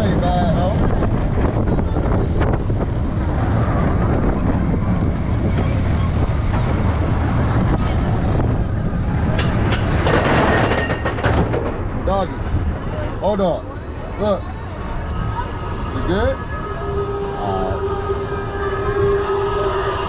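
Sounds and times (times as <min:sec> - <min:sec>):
roller coaster wheels rumbling: 0:00.0 - 0:20.0.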